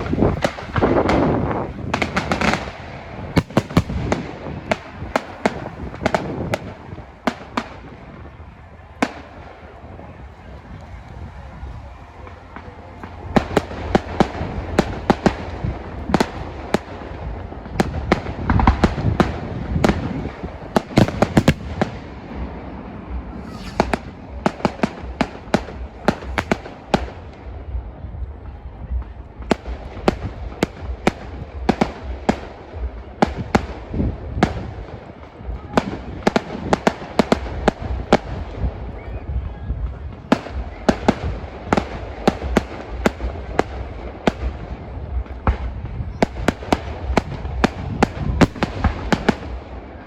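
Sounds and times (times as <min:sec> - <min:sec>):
fireworks bangs and crackles: 0:00.0 - 0:50.0
steady low rumble: 0:00.0 - 0:50.0.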